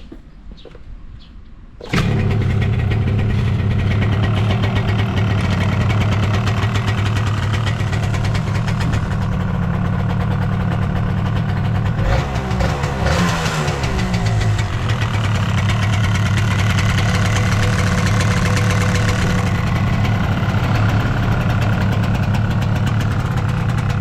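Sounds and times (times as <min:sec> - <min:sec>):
motorcycle engine starting and idling: 0:01.8 - 0:24.0.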